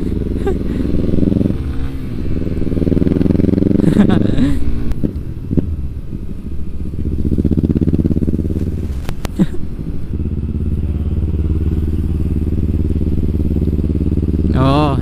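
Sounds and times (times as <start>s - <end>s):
motorcycle engine idling: 0.0s - 9.0s, 9.7s - 15.0s.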